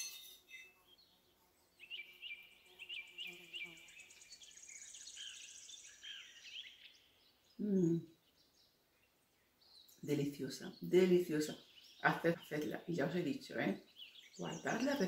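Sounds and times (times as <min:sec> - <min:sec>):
small songbird chirping: 0:00.0 - 0:15.0.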